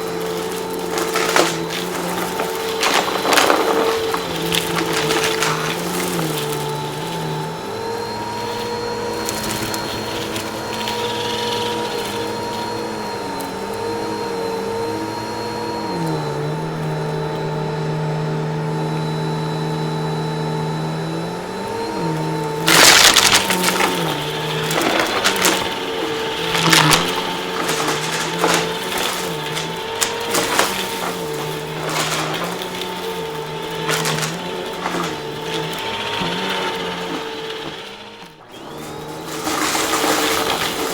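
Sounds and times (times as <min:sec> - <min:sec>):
crunchy debris crackling: 0:00.0 - 0:40.9
vacuum cleaner motor running: 0:00.0 - 0:40.9.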